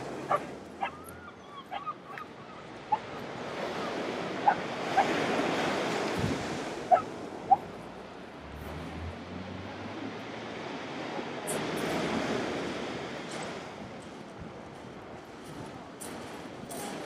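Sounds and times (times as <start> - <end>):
waves breaking on shingle beach: 0.0 - 1.2, 1.8 - 17.0.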